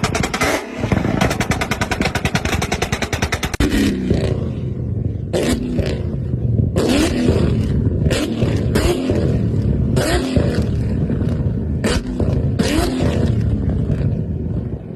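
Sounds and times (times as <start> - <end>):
car engine revving: 0.0 - 14.3
exhaust crackle: 0.0 - 14.8.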